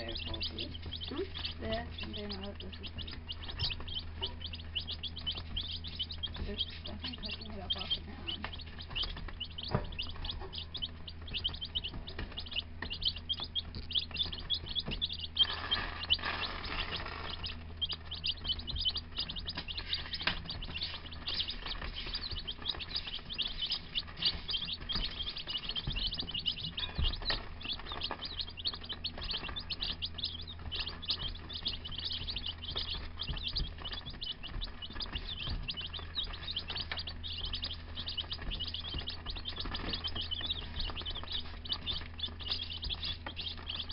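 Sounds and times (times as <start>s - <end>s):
baby chicks peeping: 0.0s - 43.9s
steady low hum: 0.0s - 43.9s.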